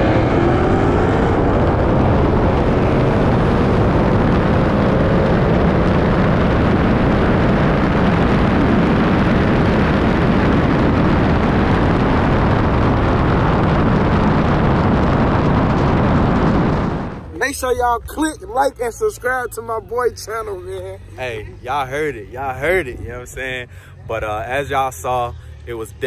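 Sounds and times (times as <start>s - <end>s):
car engines at full throttle: 0.0s - 26.0s.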